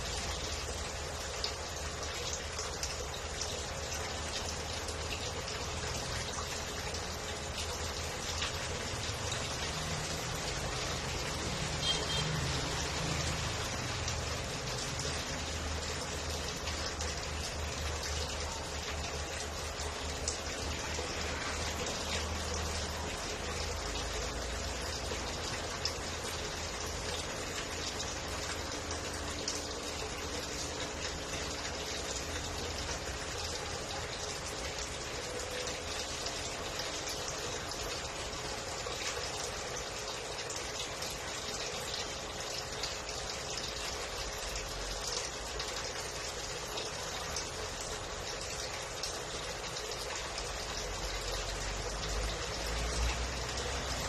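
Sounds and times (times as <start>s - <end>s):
aquarium filter water splashing: 0.0s - 54.0s.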